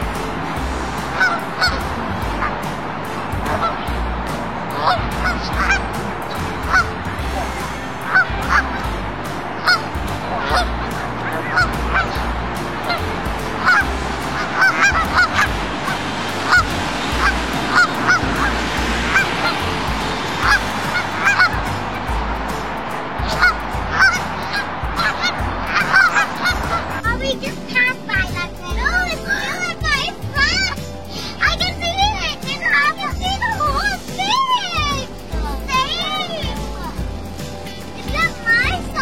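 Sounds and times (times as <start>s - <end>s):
geese honking: 0.0s - 39.0s.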